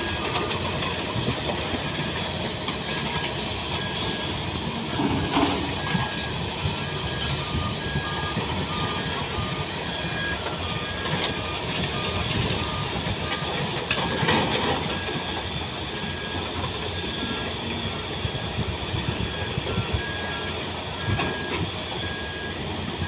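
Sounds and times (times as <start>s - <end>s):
diesel machinery running: 0.0s - 23.0s
reversing alarms beeping: 0.0s - 23.0s.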